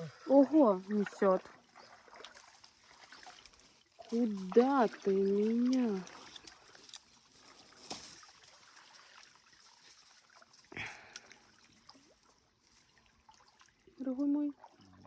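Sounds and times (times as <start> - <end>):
faint water splashes and drips: 0.0 - 15.0.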